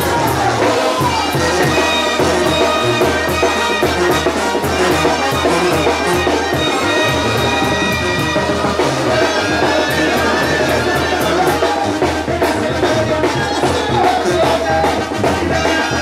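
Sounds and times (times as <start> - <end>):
brass band playing: 0.0 - 16.0
percussion beat: 0.0 - 16.0.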